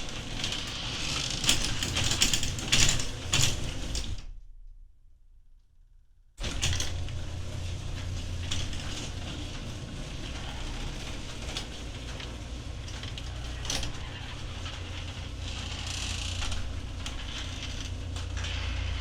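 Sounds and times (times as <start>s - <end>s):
door mechanism clicks and rattles: 0.0s - 4.2s, 6.4s - 18.4s
garage door motor humming: 0.0s - 4.4s, 6.4s - 19.0s.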